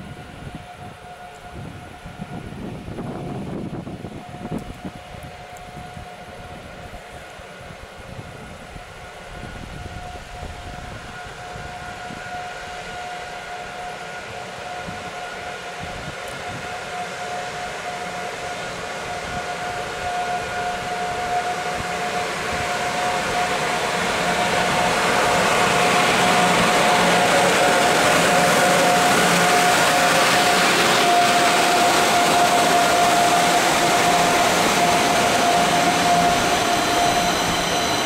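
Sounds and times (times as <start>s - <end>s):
high-pitched train whine: 0.0s - 38.0s
train wheels rushing on rails: 0.0s - 38.0s.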